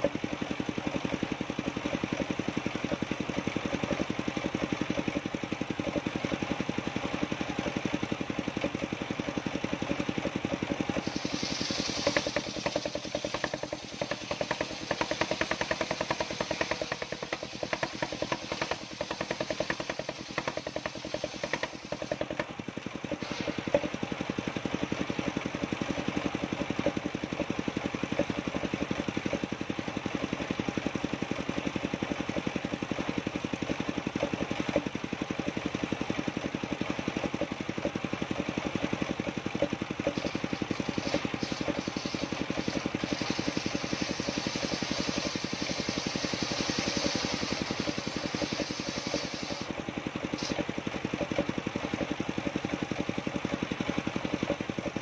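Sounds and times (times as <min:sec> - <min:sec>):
engine running with firing pulses: 0:00.0 - 0:55.0.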